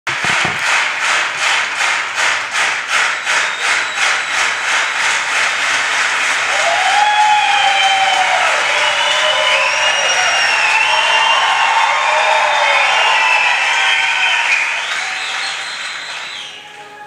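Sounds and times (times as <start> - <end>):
audience clapping in unison: 0.0 - 17.0
crowd cheering: 0.1 - 17.0.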